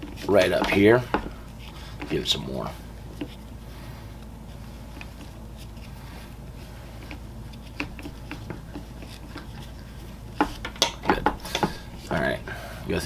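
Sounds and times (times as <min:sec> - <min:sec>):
steady low hum: 0:00.0 - 0:13.0
webbing clicks and rustles: 0:00.0 - 0:13.0.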